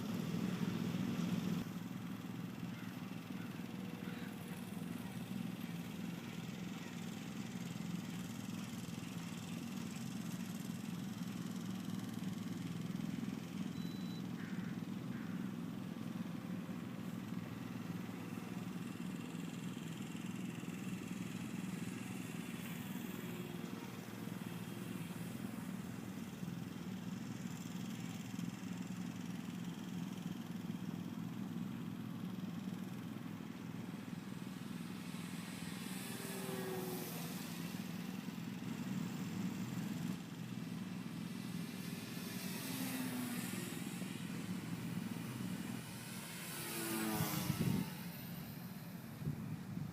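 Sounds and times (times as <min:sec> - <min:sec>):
model plane motor droning: 0:00.0 - 0:49.9
outdoor noise: 0:00.0 - 0:49.9.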